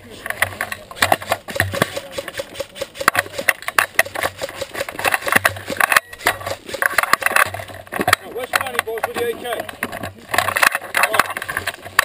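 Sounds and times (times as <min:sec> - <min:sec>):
gun and sling rattling: 0:00.1 - 0:12.0.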